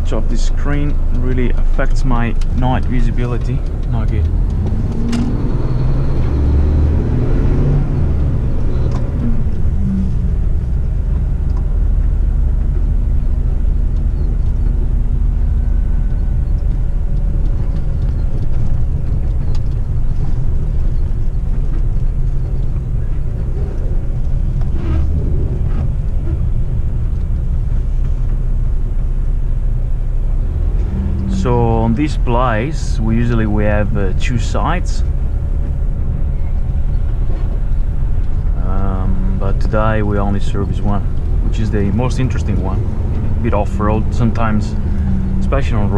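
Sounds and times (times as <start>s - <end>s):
diesel truck engine: 0.0s - 45.9s
tyre noise on dirt road: 0.0s - 45.9s.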